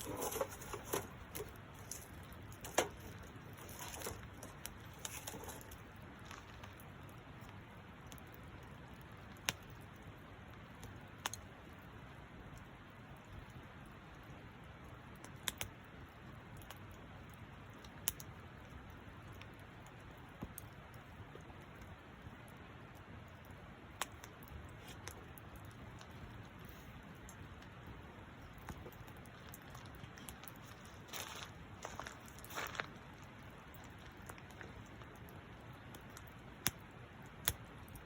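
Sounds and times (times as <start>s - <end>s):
wood fire burning: 0.0s - 38.0s
wood popping and crackling: 0.0s - 38.0s.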